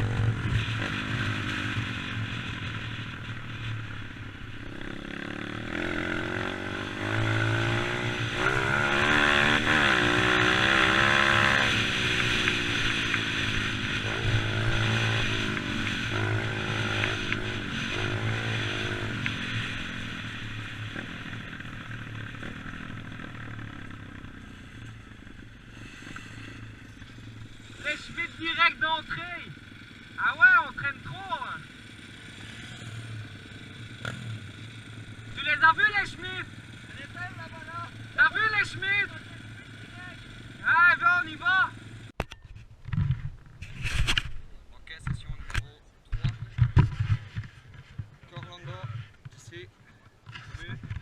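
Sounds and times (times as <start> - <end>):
dirt bike engine revving: 0.0 - 42.1.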